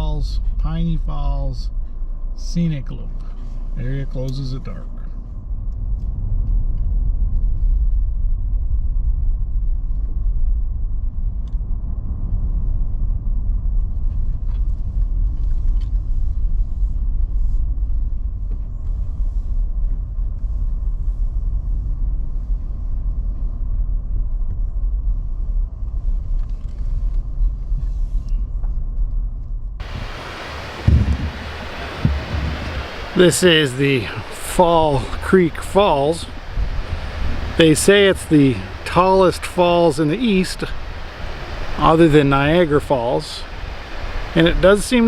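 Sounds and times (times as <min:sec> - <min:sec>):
engine and road noise: 0:00.0 - 0:45.0.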